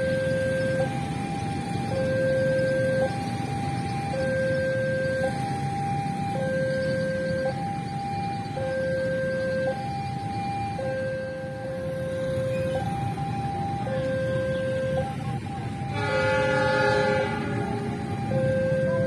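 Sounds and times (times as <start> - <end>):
level-crossing warning alarm: 0.0 - 19.0.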